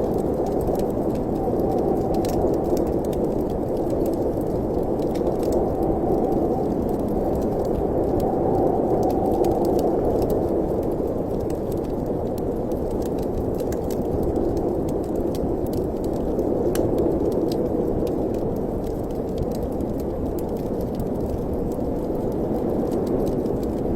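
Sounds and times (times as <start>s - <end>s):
steady wind noise: 0.0s - 23.9s
wood fire crackling and popping: 0.0s - 23.9s.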